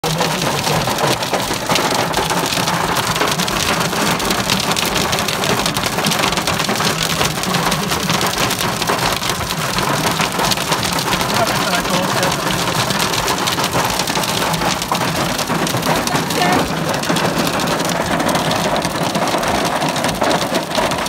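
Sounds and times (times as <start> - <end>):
hail and rain hitting car roof: 0.0 - 21.0.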